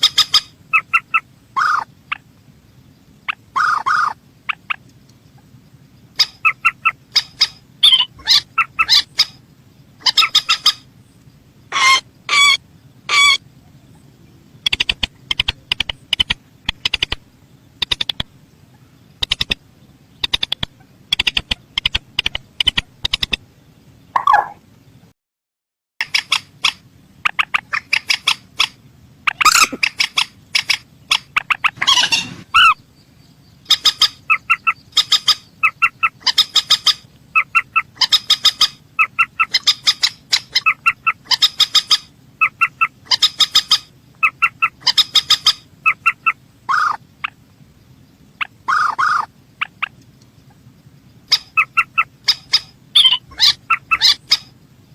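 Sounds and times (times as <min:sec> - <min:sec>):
rail bird calling: 0:00.0 - 0:24.6, 0:26.0 - 0:54.9.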